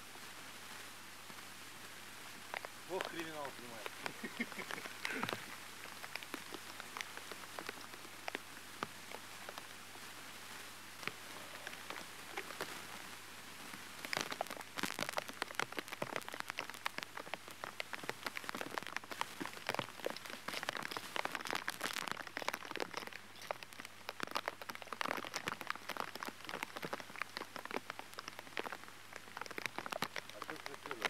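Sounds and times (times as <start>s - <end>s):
rain patter on water: 0.0s - 31.0s.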